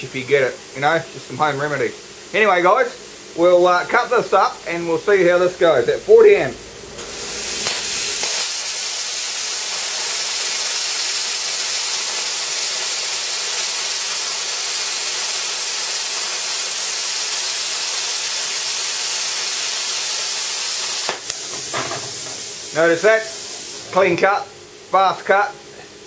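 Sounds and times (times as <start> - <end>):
plasma cutter hissing: 0.0 - 24.3.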